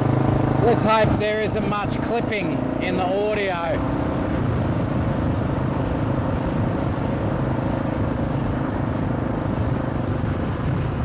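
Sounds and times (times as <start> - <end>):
motorcycle engine running: 0.0 - 11.0
wind rumbling on microphones: 0.0 - 11.0.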